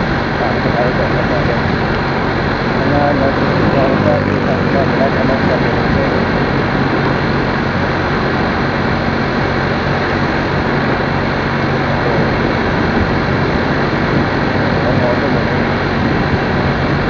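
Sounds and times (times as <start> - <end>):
motorcycle engine drone: 0.0 - 17.0
wind and road noise: 0.0 - 17.0.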